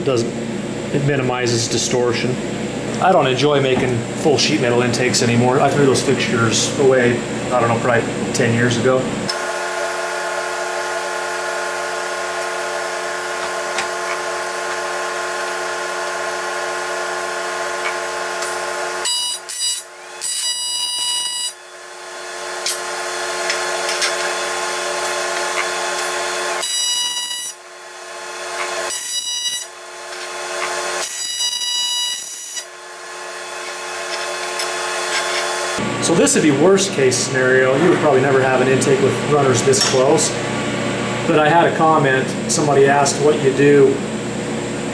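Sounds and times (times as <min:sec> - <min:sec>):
welding arc buzzing: 0:02.5 - 0:44.9.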